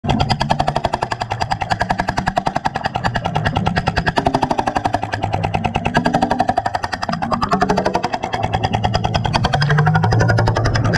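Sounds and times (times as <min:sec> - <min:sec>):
jackhammer heard underwater: 0:00.0 - 0:10.9.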